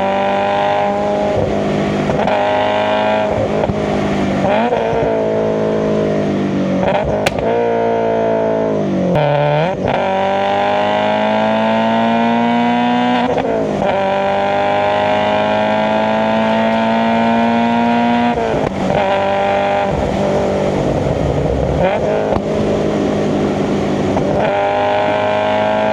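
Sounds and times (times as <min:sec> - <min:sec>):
car engine revving under load: 0:00.0 - 0:25.9.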